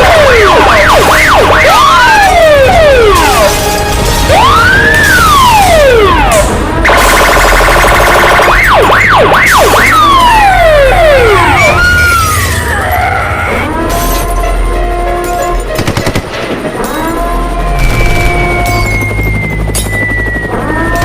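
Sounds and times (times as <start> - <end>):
steady alarm tones: 0.0 - 12.9, 16.5 - 21.0
siren wailing: 0.0 - 15.7, 16.7 - 21.0.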